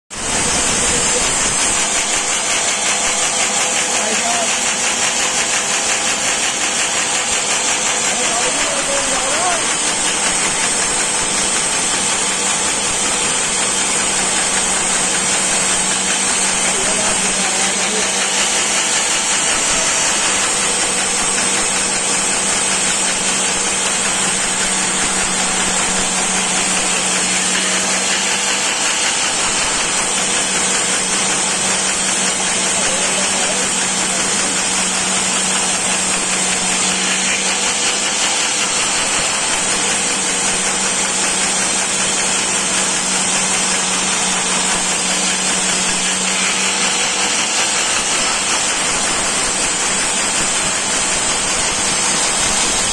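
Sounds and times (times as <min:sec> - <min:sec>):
bandsaw cutting wood: 0:00.1 - 0:52.9
bandsaw motor hum: 0:00.1 - 0:52.9.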